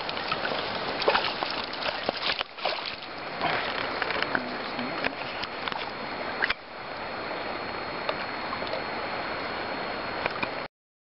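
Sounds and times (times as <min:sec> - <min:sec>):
stream water rushing: 0:00.0 - 0:10.7.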